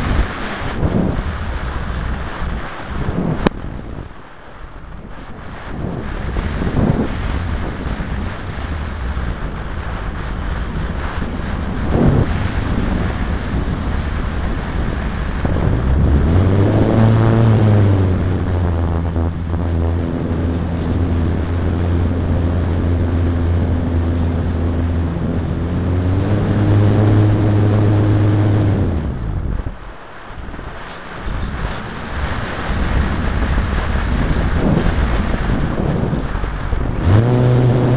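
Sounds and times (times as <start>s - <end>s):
airflow rushing over camera: 0.0s - 37.9s
low engine drone: 0.0s - 37.9s.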